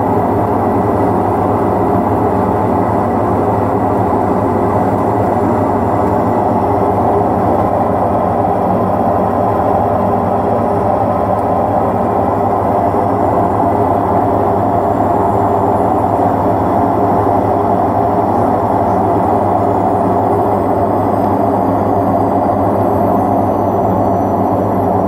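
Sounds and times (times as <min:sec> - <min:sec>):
washing machine spin cycle drone: 0:00.0 - 0:25.0.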